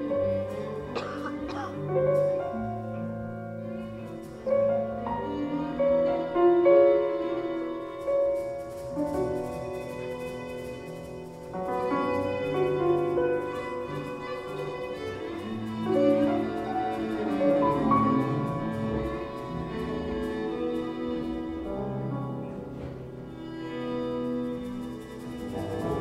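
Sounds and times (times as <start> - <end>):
bowed string sounds: 0.0 - 26.0.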